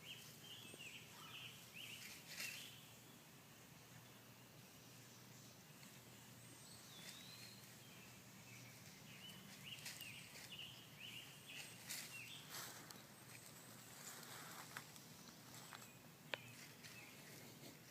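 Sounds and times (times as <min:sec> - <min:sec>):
faint bird chirps: 0:00.0 - 0:17.9.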